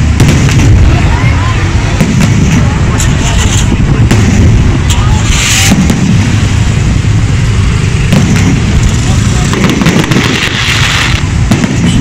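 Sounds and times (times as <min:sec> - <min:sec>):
firework shells bursting: 0:00.0 - 0:01.0, 0:02.0 - 0:06.8, 0:08.0 - 0:12.0
loud hiss: 0:00.0 - 0:12.0
low rumble: 0:00.0 - 0:12.0.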